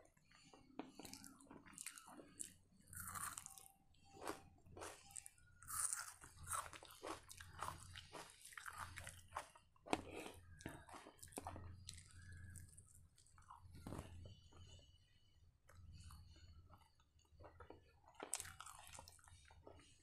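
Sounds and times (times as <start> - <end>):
person chewing crunchy food: 0.7 - 14.2, 16.8 - 20.0.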